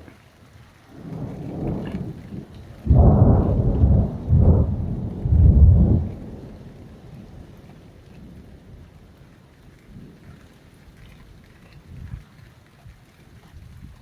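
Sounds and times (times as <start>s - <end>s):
rain falling: 0.0s - 14.0s
thunder rumbling: 0.9s - 12.2s.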